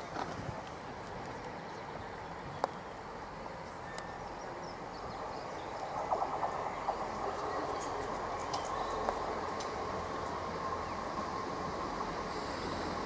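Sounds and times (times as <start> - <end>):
diesel train rattling along track: 0.0 - 13.0.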